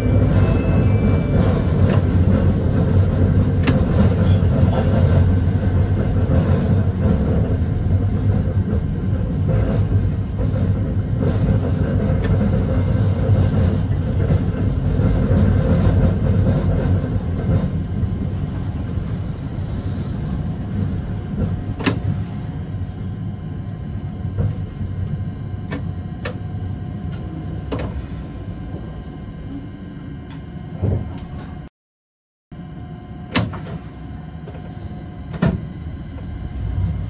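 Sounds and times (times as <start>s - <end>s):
tram rumbling on track: 0.0s - 31.7s, 32.6s - 37.0s.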